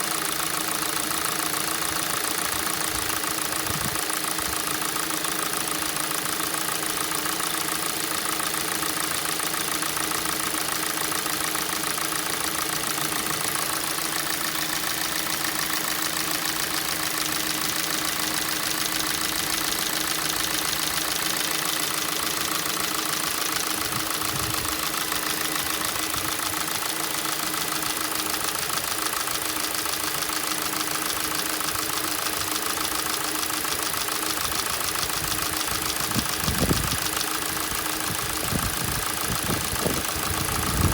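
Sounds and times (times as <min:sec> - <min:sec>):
petrol engine idling: 0:00.0 - 0:40.9
rapid engine knock: 0:00.0 - 0:40.9.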